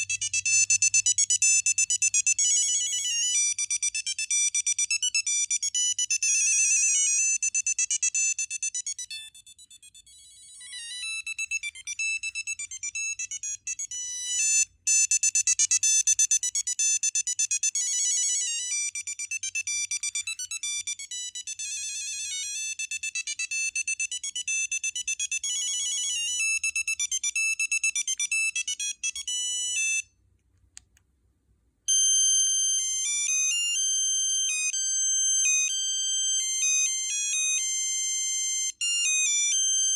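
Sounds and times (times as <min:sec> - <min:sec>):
cellphone ringtone beeping melody: 0:00.0 - 0:30.1, 0:31.9 - 0:39.9.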